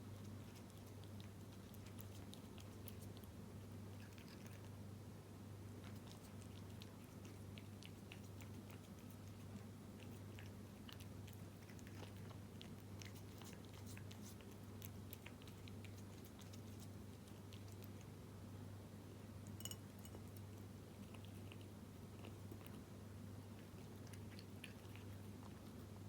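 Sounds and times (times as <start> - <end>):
cat chewing wet food: 0.0 - 5.1, 5.7 - 18.3, 19.4 - 26.0
steady low hum: 0.0 - 26.0.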